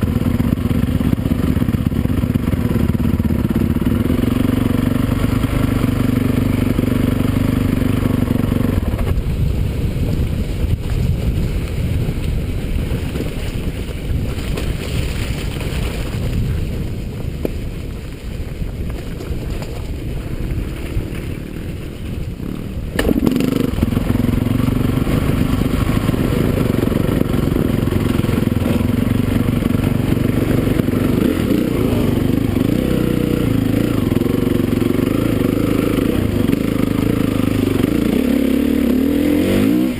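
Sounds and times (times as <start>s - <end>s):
motocross bike engines running: 0.0s - 39.9s.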